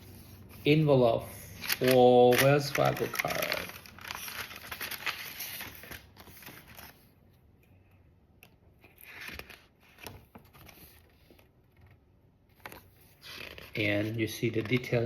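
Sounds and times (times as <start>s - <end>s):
paper rustling and crinkling: 0.0s - 7.1s, 8.8s - 15.0s.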